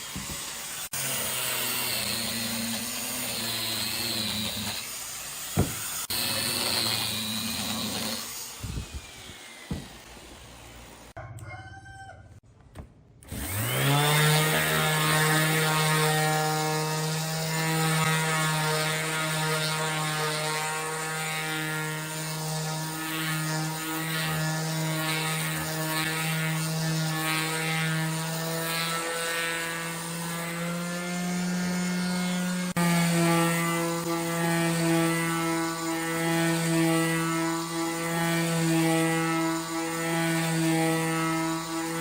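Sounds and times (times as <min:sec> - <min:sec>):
power tool motor humming: 0:00.0 - 0:11.2, 0:13.3 - 0:42.0.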